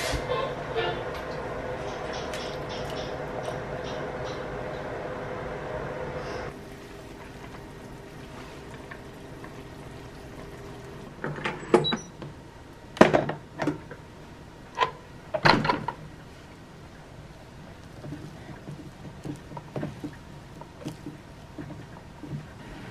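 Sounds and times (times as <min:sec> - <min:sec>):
induction hob humming: 0:00.0 - 0:22.9.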